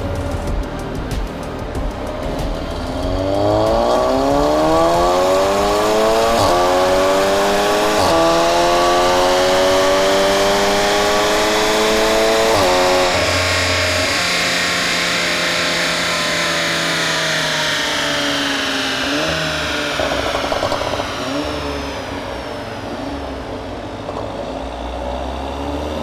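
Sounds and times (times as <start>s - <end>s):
car engine accelerating hard: 1.6s - 26.0s.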